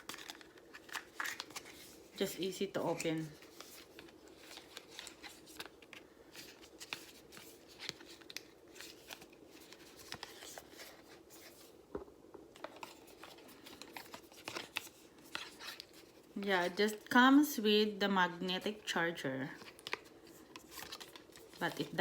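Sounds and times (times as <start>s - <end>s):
packaging rustling and crinkling: 0.0s - 11.8s, 12.5s - 17.1s, 19.5s - 22.0s.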